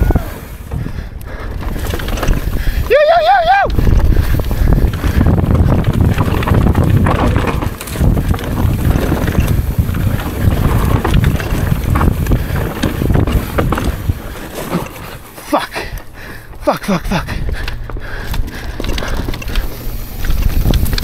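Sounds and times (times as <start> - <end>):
mountain bike clattering over trail: 0.0 - 21.0
wind buffeting microphone: 0.0 - 21.0.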